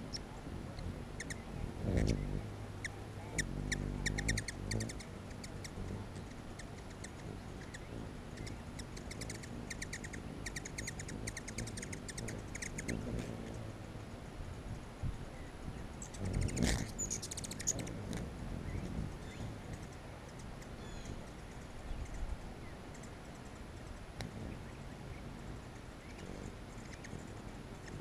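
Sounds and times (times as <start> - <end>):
hummingbird chip calls: 0.0 - 14.3, 15.3 - 28.0
hummingbird wings buzzing: 0.0 - 28.0.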